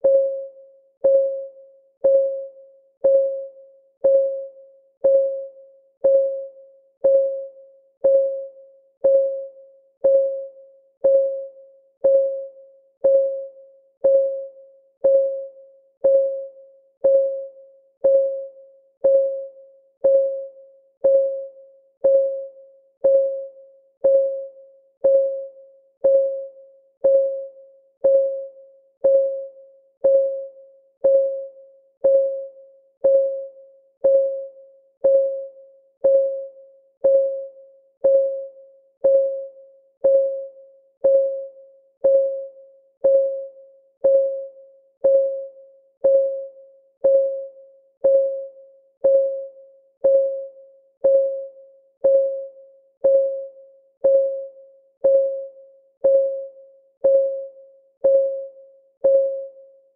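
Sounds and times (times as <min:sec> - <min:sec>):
timer ticking: 0:00.0 - 0:59.6.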